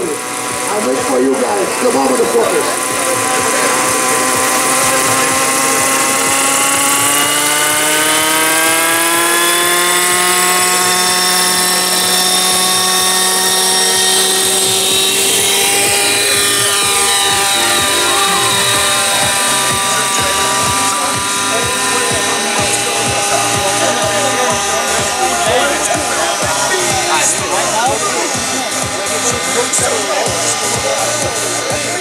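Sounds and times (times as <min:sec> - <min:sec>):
rc helicopter engine and rotor: 0:00.0 - 0:32.0.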